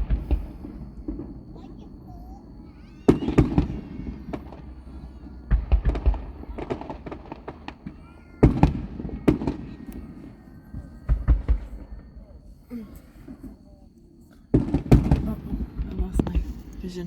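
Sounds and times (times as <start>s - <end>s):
fireworks booming: 0.0s - 17.0s
fireworks crackling: 0.0s - 17.0s.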